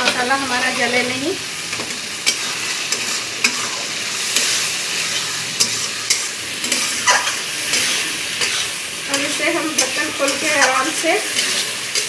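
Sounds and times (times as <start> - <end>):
food sizzling in a pan: 0.0 - 12.0
spatula scraping and clicking on pan: 1.7 - 12.0.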